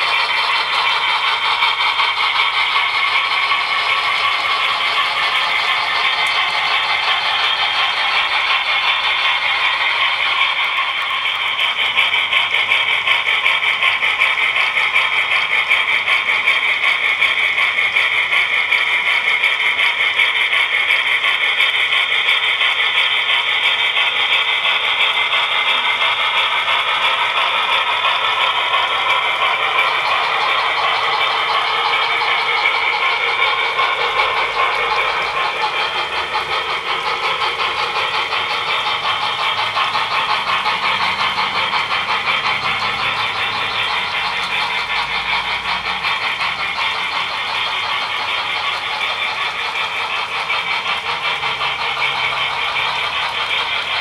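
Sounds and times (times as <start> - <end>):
model train wheels clattering: 0.0 - 54.0.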